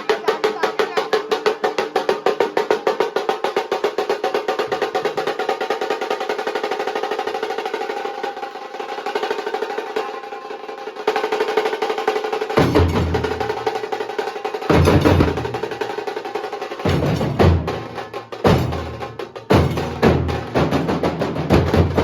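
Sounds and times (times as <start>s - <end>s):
fast dhol drumming: 0.0s - 22.0s.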